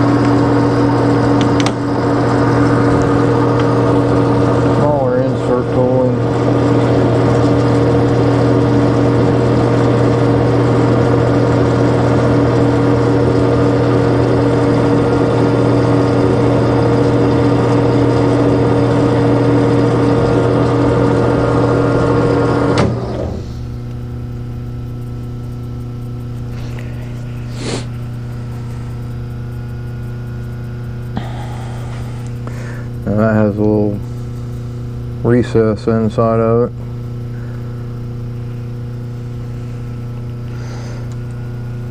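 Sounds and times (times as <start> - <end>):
metal lathe humming: 0.0 - 41.9.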